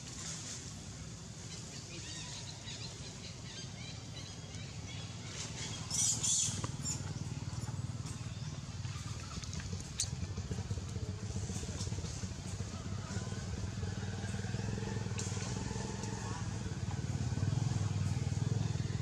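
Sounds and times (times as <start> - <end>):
motorcycle engine idling: 2.6 - 19.0.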